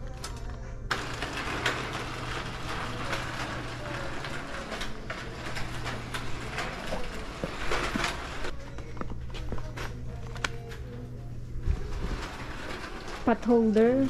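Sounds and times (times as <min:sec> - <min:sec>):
trolley wheels rolling on tiles: 0:00.0 - 0:14.0.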